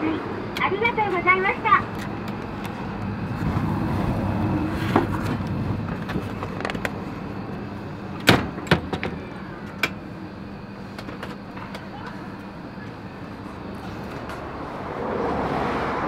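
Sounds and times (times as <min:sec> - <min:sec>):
traffic-like rumble: 0:00.0 - 0:16.0
vending machine hum: 0:00.0 - 0:16.0.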